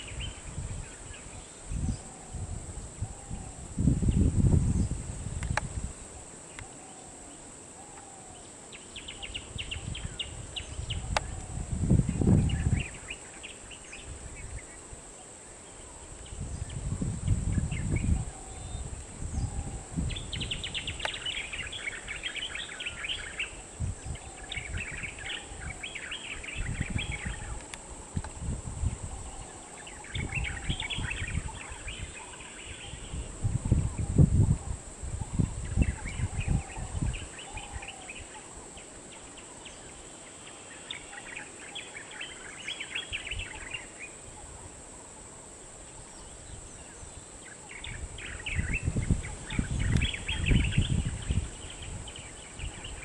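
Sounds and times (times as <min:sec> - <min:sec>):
steady high hiss: 0:00.0 - 0:53.0
birds chirping: 0:06.2 - 0:34.2, 0:35.2 - 0:53.0.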